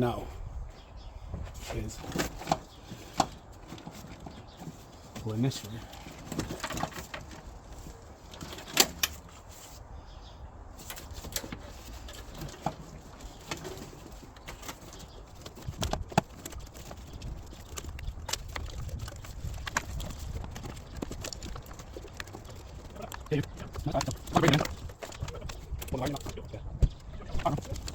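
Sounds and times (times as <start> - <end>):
clicks and knocks of wiring connectors: 1.6 - 9.4, 10.8 - 27.9.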